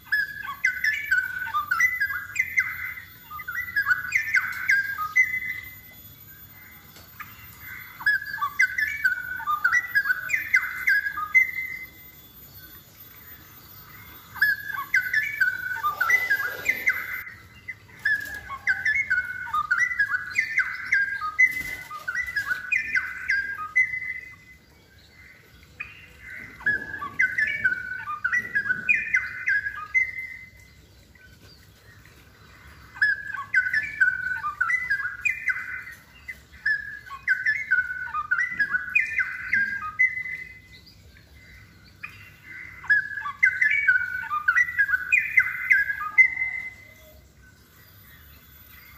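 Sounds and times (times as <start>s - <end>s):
bird singing warbled notes: 0.0s - 48.9s.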